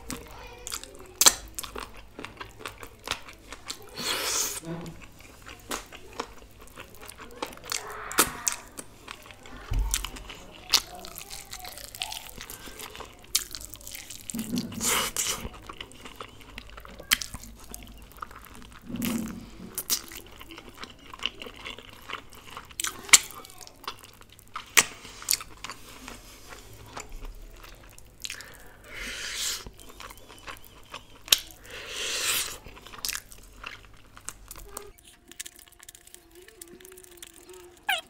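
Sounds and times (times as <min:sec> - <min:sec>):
person chewing chicken wings: 0:00.0 - 0:38.0.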